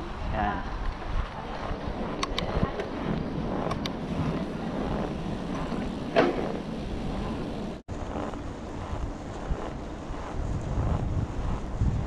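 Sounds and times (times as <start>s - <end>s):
low rumble from bicycle ride: 0.0s - 12.0s
wind rushing over microphone: 0.0s - 12.0s.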